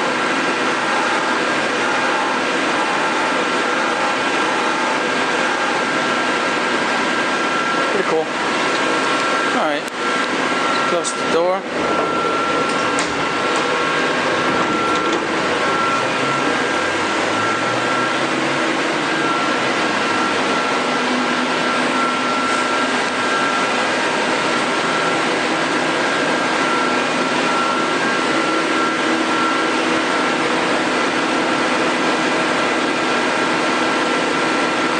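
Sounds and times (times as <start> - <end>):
lathe whirring and whining: 0.0 - 34.9.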